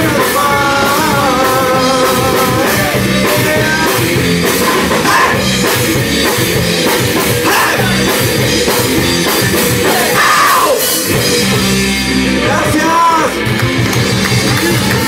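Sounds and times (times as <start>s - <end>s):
distorted electric guitar: 0.0s - 15.0s
loud drum kit: 0.0s - 15.0s.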